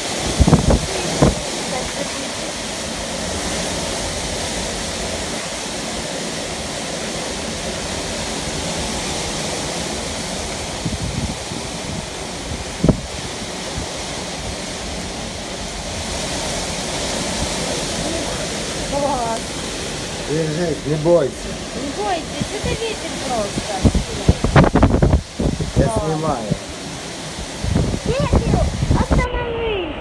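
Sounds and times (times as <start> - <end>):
storm wind through trees: 0.0 - 30.0.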